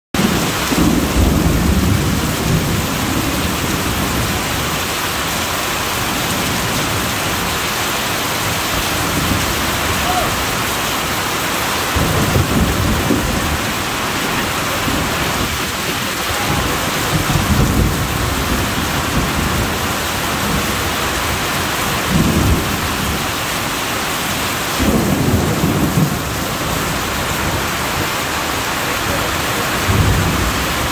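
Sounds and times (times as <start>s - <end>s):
heavy rain pouring off roof: 0.1s - 30.9s
thunder rolling: 0.2s - 5.2s, 8.3s - 23.8s, 24.7s - 28.4s, 29.0s - 30.9s.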